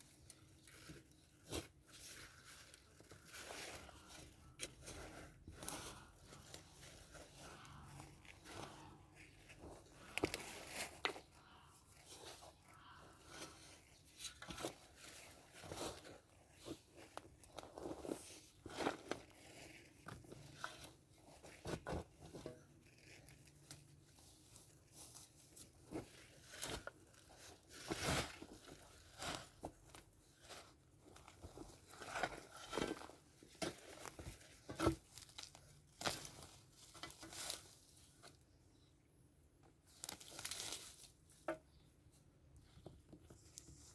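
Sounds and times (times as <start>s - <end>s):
soil and plants crunching and tearing: 0.0s - 38.4s, 39.9s - 41.2s.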